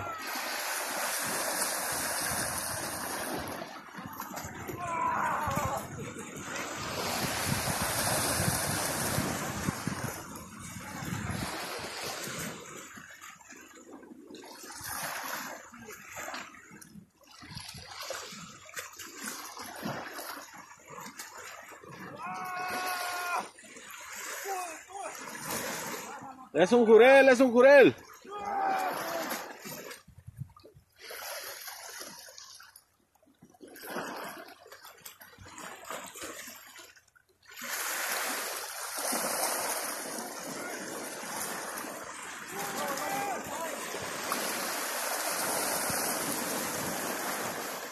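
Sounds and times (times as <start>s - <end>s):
waves splashing against rocks: 0.0s - 32.7s, 33.6s - 47.9s.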